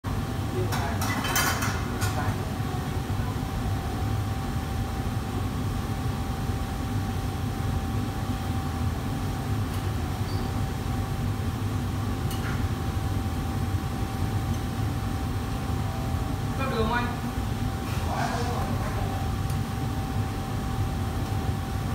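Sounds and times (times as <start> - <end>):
gas burners and extraction hood roar: 0.0 - 21.9.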